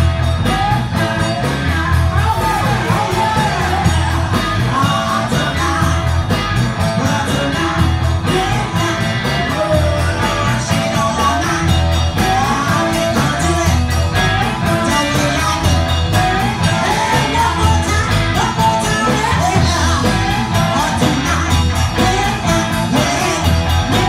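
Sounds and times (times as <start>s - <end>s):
drums with steady beat: 0.0s - 24.0s
electric guitar: 0.0s - 24.0s.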